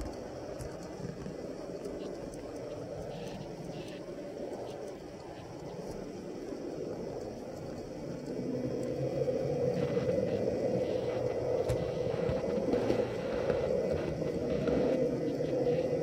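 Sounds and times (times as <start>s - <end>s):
faint clicks: 0.0s - 16.0s.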